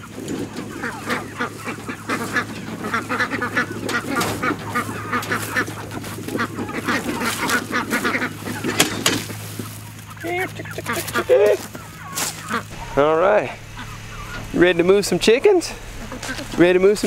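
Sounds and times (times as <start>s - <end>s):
chickens squawking and clucking: 0.0s - 17.0s.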